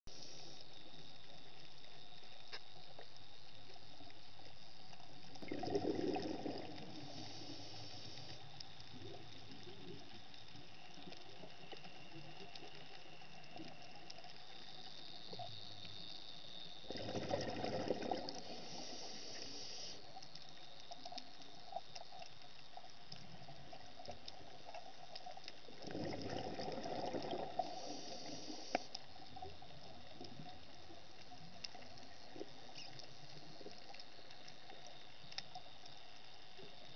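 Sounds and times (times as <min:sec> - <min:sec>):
faint clicks: 0:00.1 - 0:16.8, 0:18.0 - 0:36.9
underwater hiss: 0:00.1 - 0:36.9.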